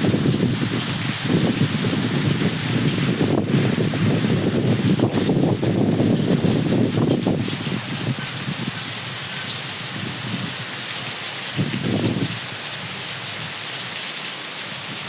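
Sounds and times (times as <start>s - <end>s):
wind buffeting microphone: 0.0s - 13.5s
heavy rain: 0.0s - 15.0s.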